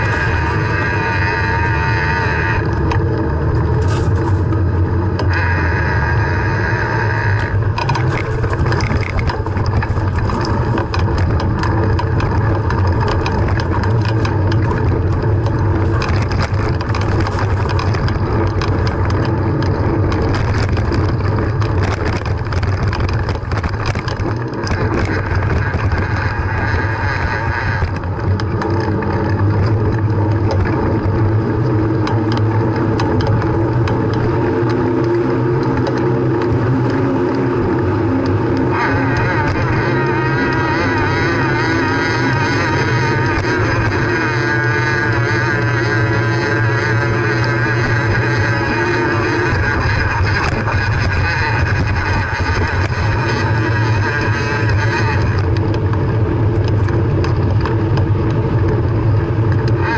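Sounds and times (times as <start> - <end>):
bicycle rattles and knocks: 0.0 - 59.9
bicycle tyre noise: 0.0 - 59.9
wind rumble on microphone: 0.0 - 59.9.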